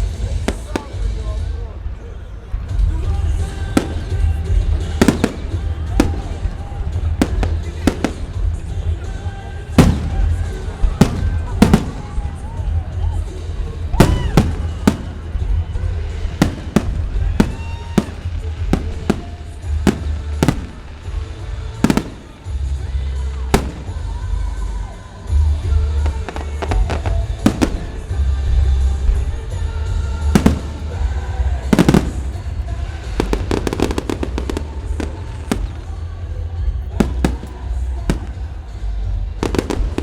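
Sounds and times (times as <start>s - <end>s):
fireworks bursting: 0.0s - 1.6s, 2.6s - 40.0s
fireworks crackling: 0.0s - 40.0s.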